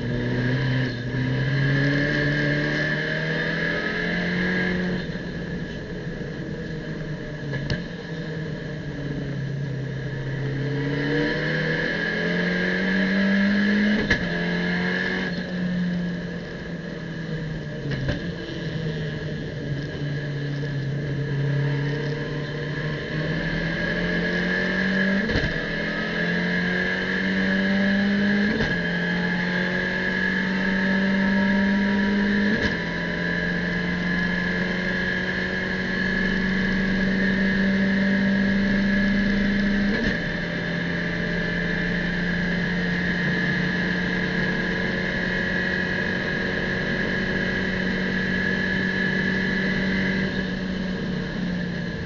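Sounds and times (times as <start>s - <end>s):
race car engine accelerating: 0.0s - 52.0s
steady high whine: 0.0s - 52.0s.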